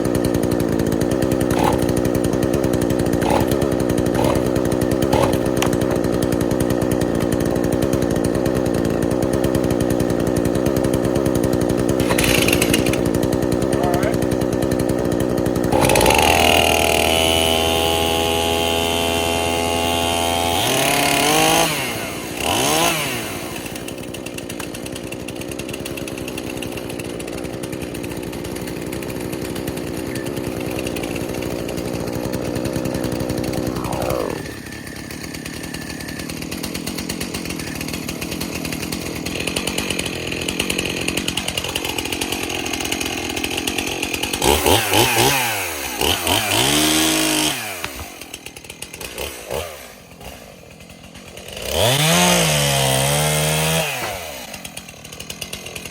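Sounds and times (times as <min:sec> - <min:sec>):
chainsaw engine revving: 0:00.0 - 0:55.9.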